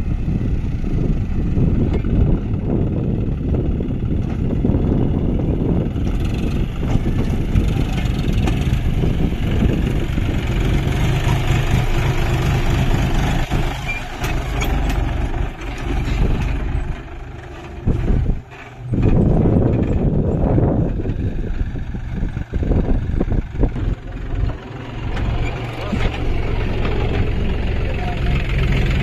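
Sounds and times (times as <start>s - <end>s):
tractor diesel engine running: 0.0s - 29.0s
tyres rolling over rough ground: 1.1s - 29.0s.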